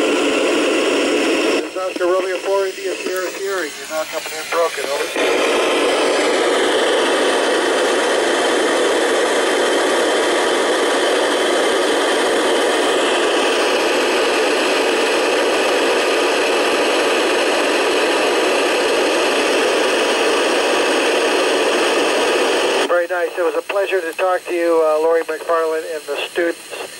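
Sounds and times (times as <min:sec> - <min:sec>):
radio receiver hiss: 0:00.0 - 0:26.9.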